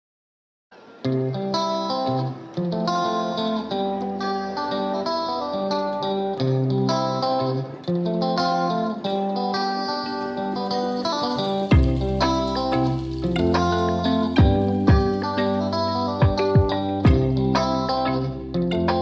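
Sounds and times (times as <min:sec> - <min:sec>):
plucked guitar music: 0:00.8 - 0:19.0.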